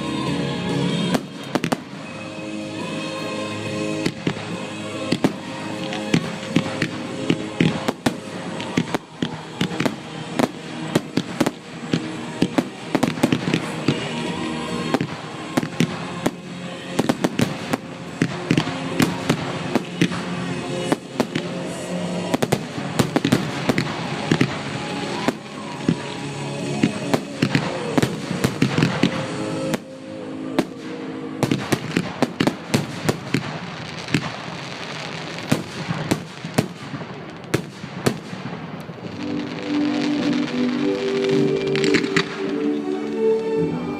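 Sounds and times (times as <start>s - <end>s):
fireworks bangs and crackles: 0.0s - 43.6s
music playing: 0.0s - 43.9s.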